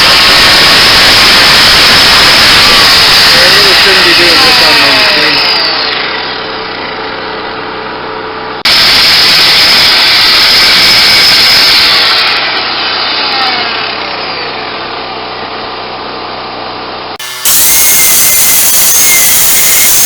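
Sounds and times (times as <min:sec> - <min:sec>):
grinder grinding steel: 0:00.0 - 0:07.7, 0:08.7 - 0:15.6, 0:17.2 - 0:20.0.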